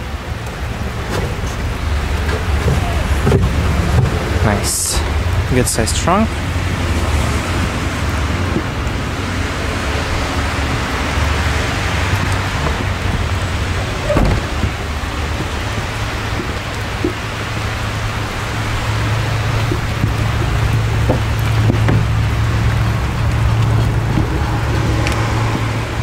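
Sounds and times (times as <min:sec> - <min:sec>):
low rumble: 0:00.0 - 0:26.0
steady rain: 0:00.0 - 0:26.0.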